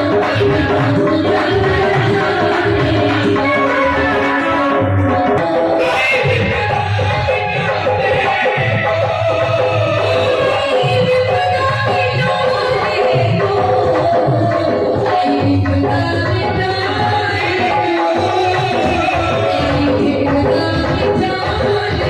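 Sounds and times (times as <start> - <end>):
sustained devotional melody: 0.0 - 22.0
tabla drumming: 0.0 - 22.0.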